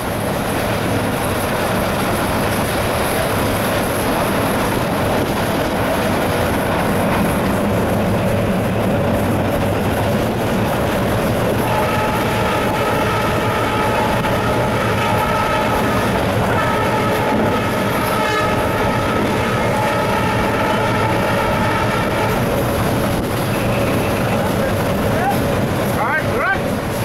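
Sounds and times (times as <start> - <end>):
diesel engine rumble: 0.0 - 27.0
wheel and rail noise: 0.0 - 27.0.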